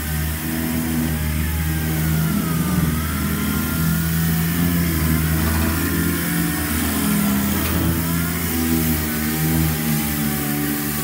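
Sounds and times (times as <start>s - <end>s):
low motor hum: 0.0s - 11.0s
wavering high whine: 0.0s - 11.0s.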